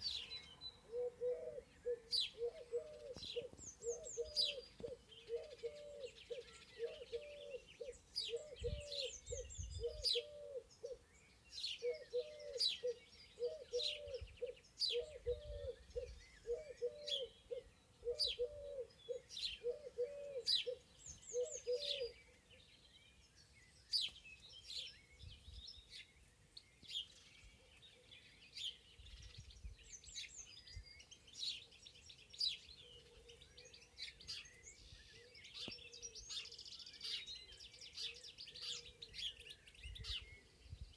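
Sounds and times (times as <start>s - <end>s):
bird low cooing call: 0.0s - 40.9s
songbirds chirping and singing: 0.0s - 40.9s.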